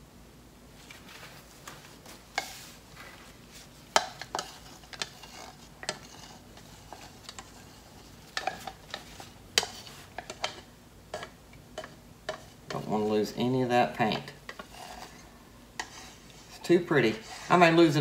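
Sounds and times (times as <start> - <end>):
stir stick scraping plastic cup: 2.0 - 13.0, 14.0 - 18.0.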